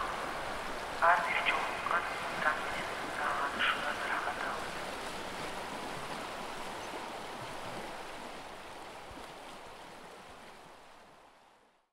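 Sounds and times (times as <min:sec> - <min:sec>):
mountain stream rushing: 0:00.0 - 0:11.8.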